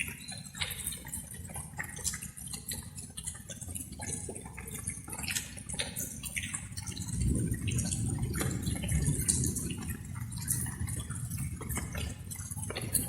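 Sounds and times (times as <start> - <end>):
raindrops dripping: 0.0 - 13.0.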